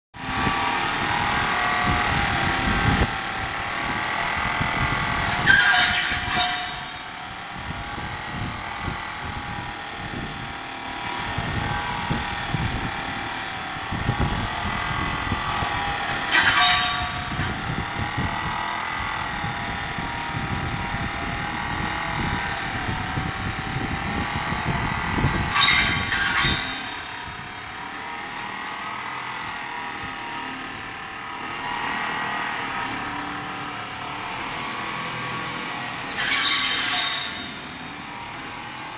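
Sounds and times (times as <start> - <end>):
polishing machine hum and whine: 0.2 - 38.9.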